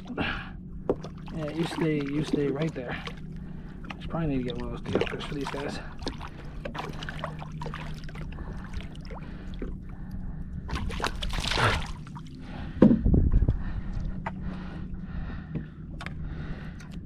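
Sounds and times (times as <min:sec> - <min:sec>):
water splashing beside boat: 0:00.0 - 0:17.0.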